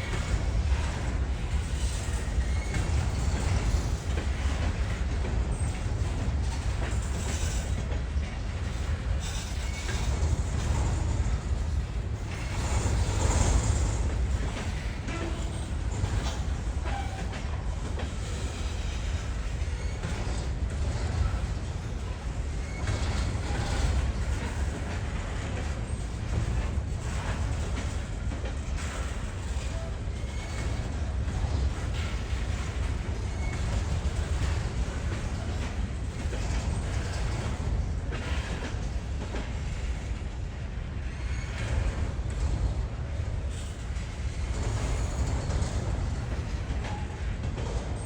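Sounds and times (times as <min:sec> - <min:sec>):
train rumble: 0:00.0 - 0:48.0
wheels clattering on rails: 0:00.0 - 0:48.0.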